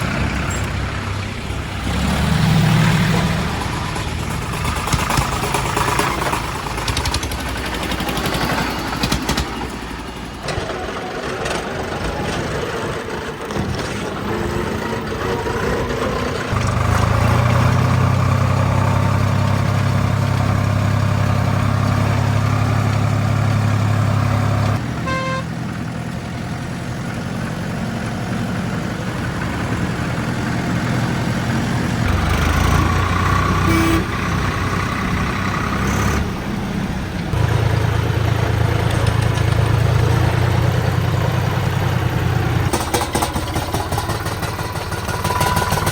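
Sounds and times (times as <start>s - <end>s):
tractor engine under load: 0.0s - 45.9s.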